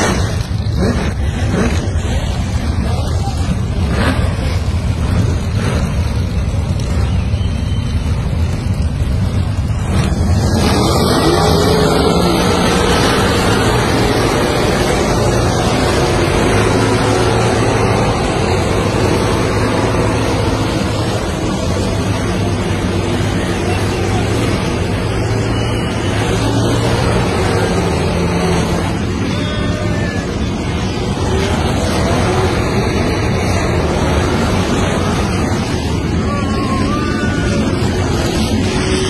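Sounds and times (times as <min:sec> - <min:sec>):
engines revving hard: 0:00.0 - 0:39.0
muscle car engines rumbling: 0:00.0 - 0:39.0.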